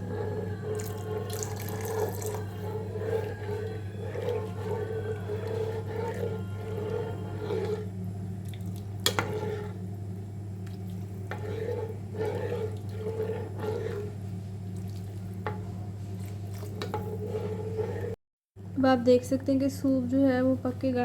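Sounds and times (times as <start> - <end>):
spoon stirring soup in a pot: 0.0 - 9.8, 10.6 - 18.2
steady low hum: 0.0 - 21.0.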